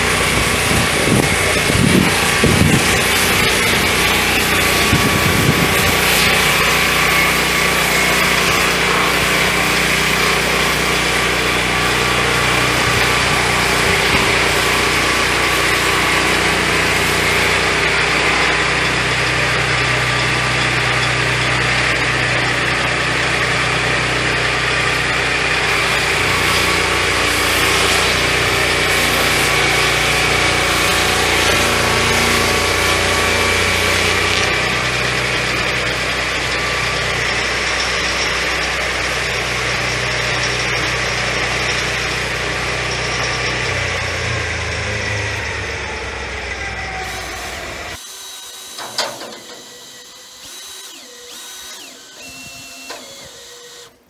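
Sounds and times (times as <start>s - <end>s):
sawmill petrol engine running: 0.0s - 54.0s.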